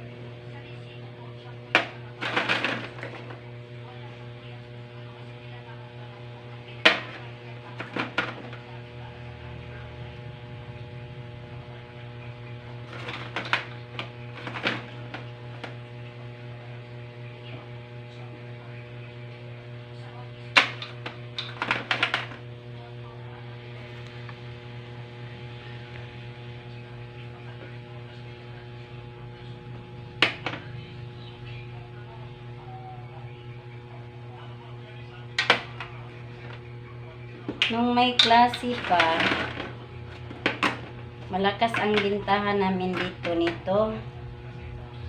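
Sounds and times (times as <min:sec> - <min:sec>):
electrical hum: 0:00.0 - 0:45.0.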